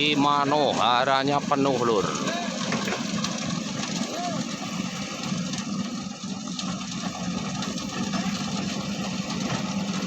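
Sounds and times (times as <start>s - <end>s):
heavy diesel engine humming: 0.0s - 10.0s.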